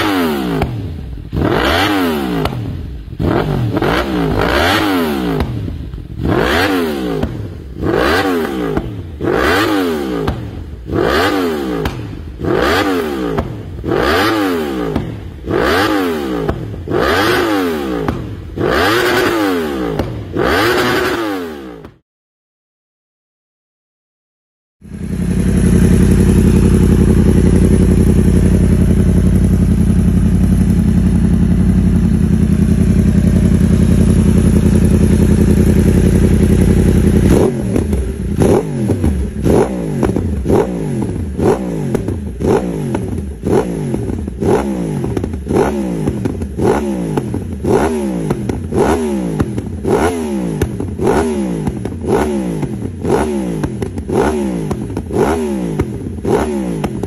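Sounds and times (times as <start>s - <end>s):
motorcycle engine revving: 0.0s - 22.0s, 24.8s - 57.0s.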